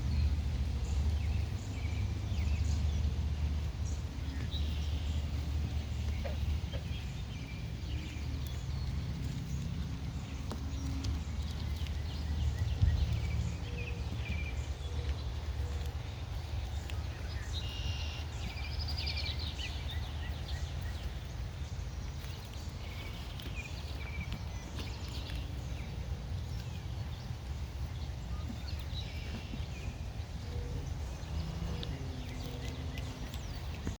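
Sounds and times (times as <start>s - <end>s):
birds chirping: 0.0s - 34.0s
steady low rumble: 0.0s - 34.0s.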